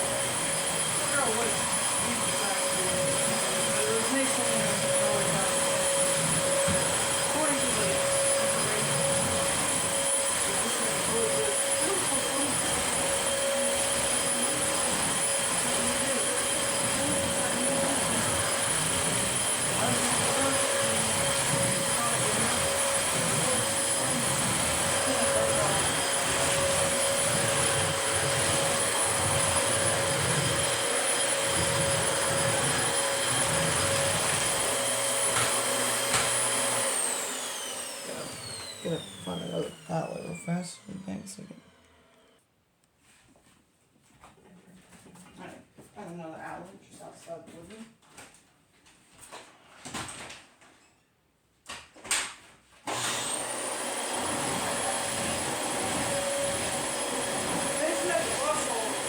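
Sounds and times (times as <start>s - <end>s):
vacuum cleaner running: 0.0s - 42.4s, 52.8s - 59.0s.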